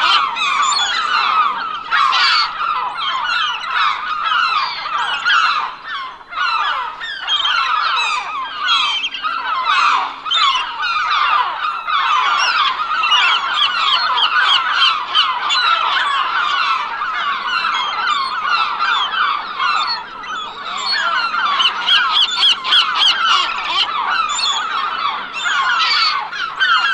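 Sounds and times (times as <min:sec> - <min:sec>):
seagulls calling: 0:00.0 - 0:26.9.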